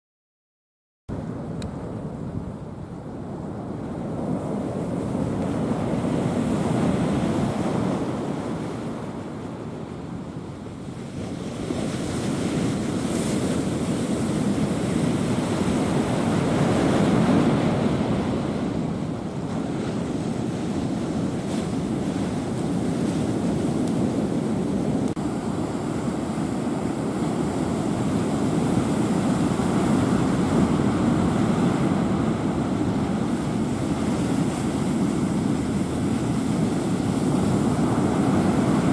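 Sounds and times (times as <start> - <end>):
strong wind and sea: 1.1 - 38.9
wind buffeting microphone: 1.1 - 38.9.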